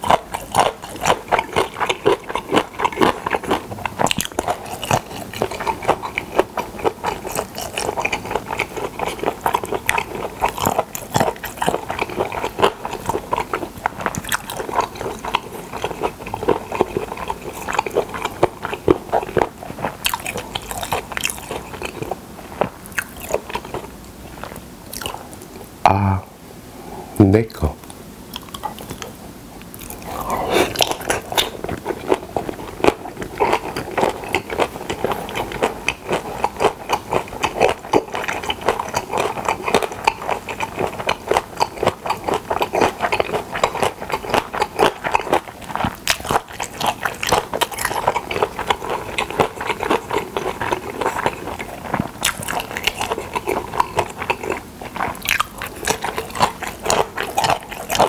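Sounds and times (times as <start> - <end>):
crunchy chewing: 0.0 - 25.7, 27.8 - 58.0.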